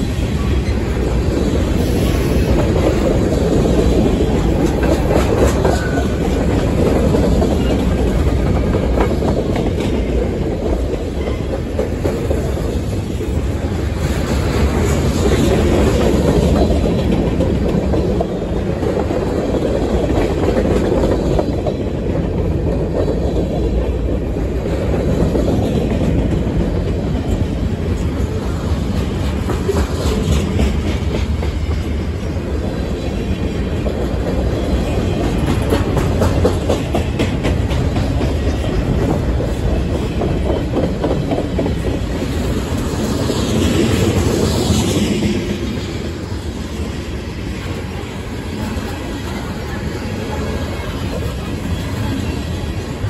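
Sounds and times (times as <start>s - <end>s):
freight train rolling past: 0.0s - 53.0s
wheels clicking on rail: 0.0s - 53.0s.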